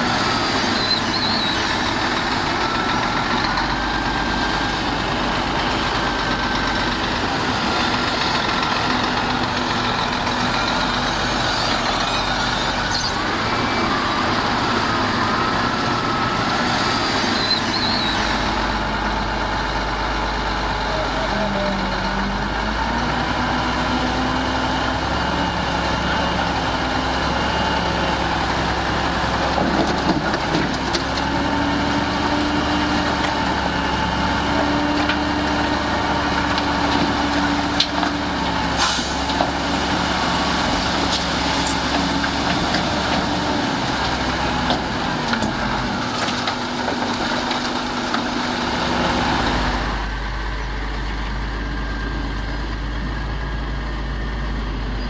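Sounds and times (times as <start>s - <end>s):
heavy diesel engines working: 0.0s - 55.0s.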